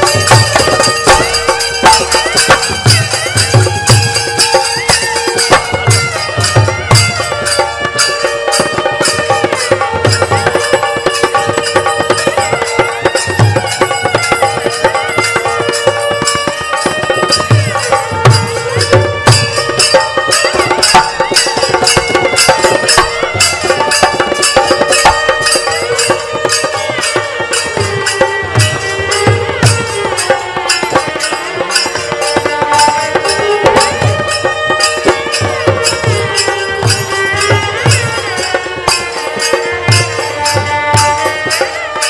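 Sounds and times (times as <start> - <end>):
barrel drums rhythm: 0.0 - 42.0
long-necked string instruments: 0.0 - 42.0.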